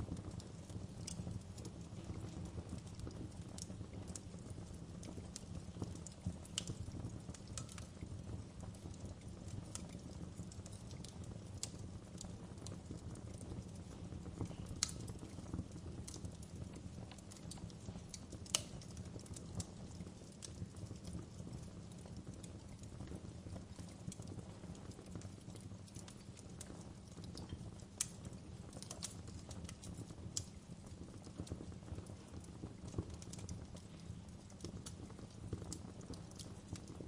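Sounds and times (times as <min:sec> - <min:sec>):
sharp pops and snaps of fire: 0:00.0 - 0:37.0
wood fire crackling: 0:00.0 - 0:37.0.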